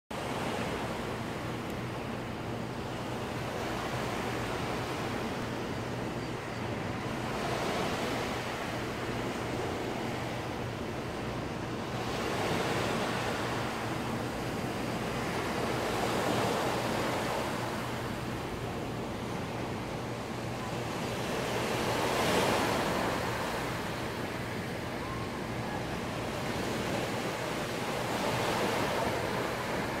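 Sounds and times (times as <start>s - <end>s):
small waves washing on beach: 0.2s - 30.0s.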